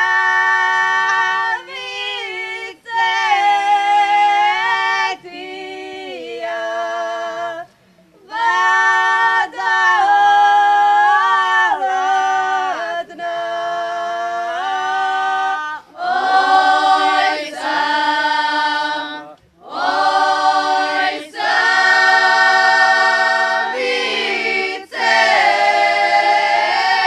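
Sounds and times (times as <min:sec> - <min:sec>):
women singing in unison: 0:00.0 - 0:27.0.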